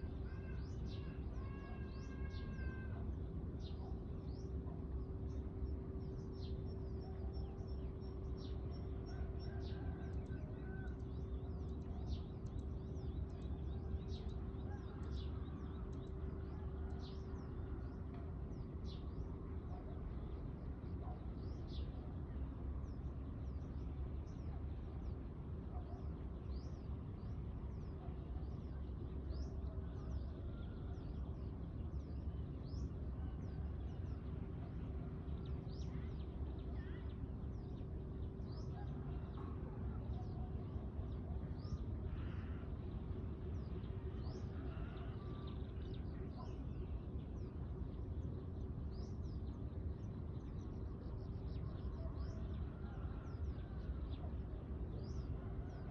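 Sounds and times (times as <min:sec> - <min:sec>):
low background rumble: 0:00.0 - 0:55.9.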